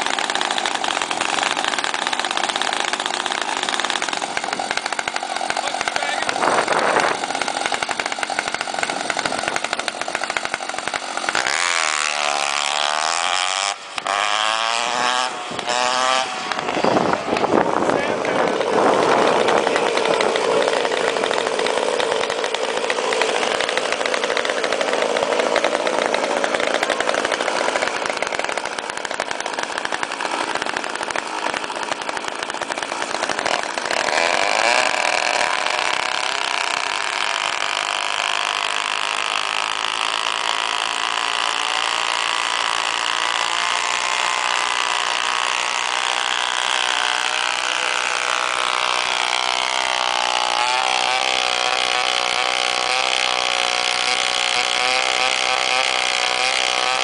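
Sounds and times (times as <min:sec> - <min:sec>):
single engine idling: 0:00.0 - 0:57.0
small petrol engines buzzing: 0:00.0 - 0:57.0.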